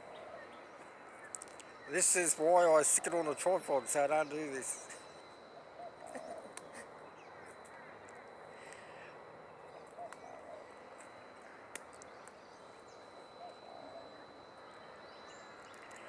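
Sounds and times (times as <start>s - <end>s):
distant bird calls: 0.0s - 16.0s
faint outdoor ambience: 0.0s - 16.0s.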